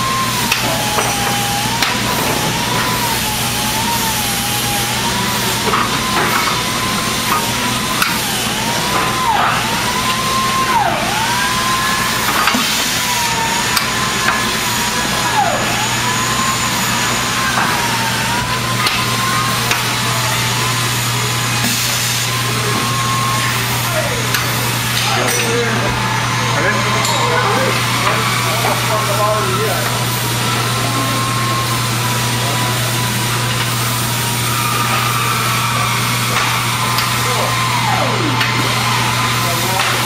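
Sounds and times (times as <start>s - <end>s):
machinery hum: 0.0s - 40.0s
wavering whine: 0.0s - 40.0s.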